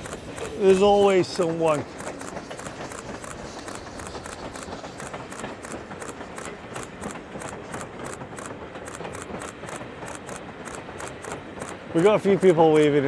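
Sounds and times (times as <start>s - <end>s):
train passing with rhythmic beat: 0.0s - 13.0s.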